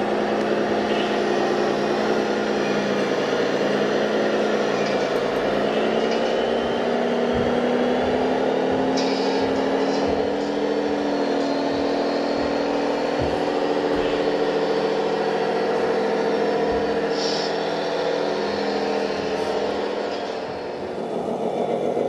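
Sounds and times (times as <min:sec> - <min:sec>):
toy truck engine running: 0:00.0 - 0:22.0.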